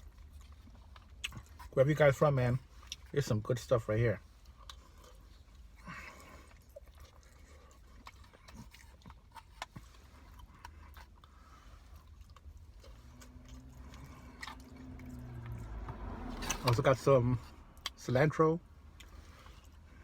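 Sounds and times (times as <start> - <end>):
soft chewing: 0.0 - 20.0.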